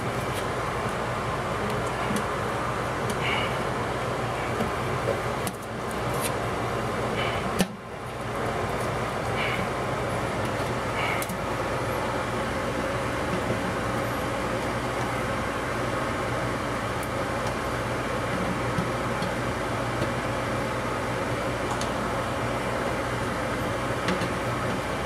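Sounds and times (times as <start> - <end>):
fan humming: 0.0 - 25.0.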